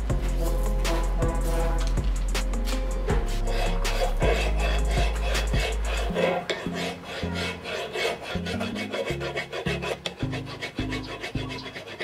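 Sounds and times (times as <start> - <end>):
hand file rasping on steel: 0.0 - 12.0.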